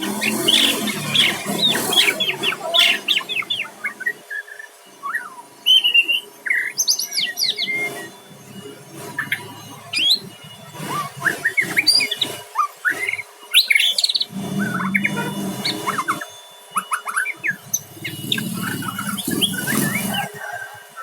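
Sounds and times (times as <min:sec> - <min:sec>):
bird singing whistles and chirps: 0:00.0 - 0:08.2, 0:09.1 - 0:21.0.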